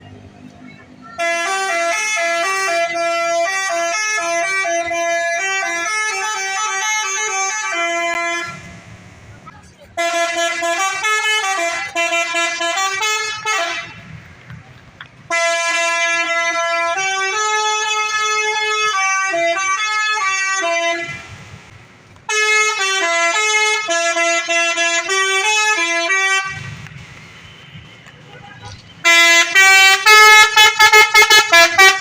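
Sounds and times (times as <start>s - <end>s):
bus horn playing melody: 1.2s - 8.7s, 10.0s - 14.1s, 15.3s - 21.2s, 22.3s - 26.7s, 28.4s - 32.0s.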